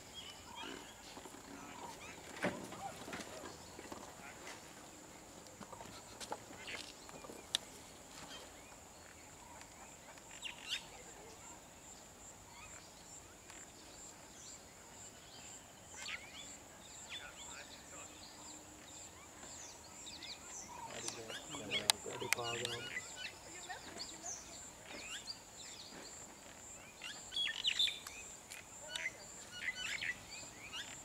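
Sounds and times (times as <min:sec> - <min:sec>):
outdoor background hiss: 0:00.0 - 0:31.0.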